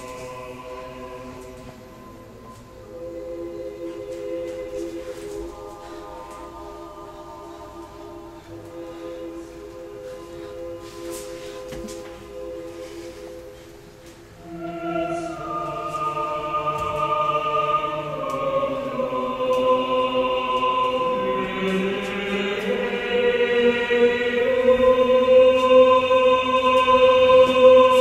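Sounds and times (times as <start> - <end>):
slow music of held tones: 0.0 - 28.0.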